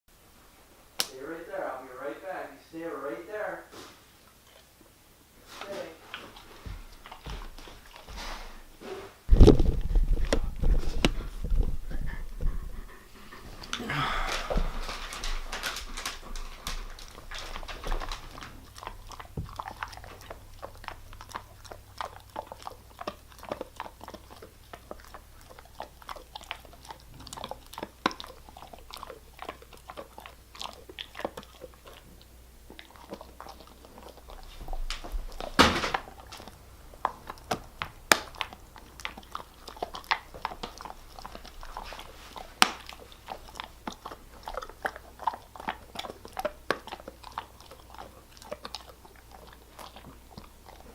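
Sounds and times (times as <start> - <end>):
dog chewing hard treat: 4.2 - 50.9.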